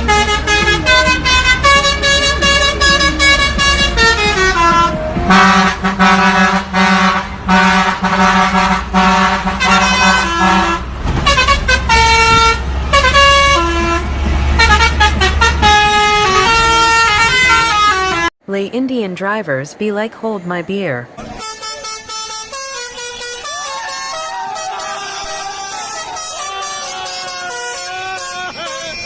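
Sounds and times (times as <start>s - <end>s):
truck air horns playing notes: 0.0s - 18.3s, 21.2s - 29.0s
truck engine drone: 0.0s - 19.1s, 19.9s - 29.0s.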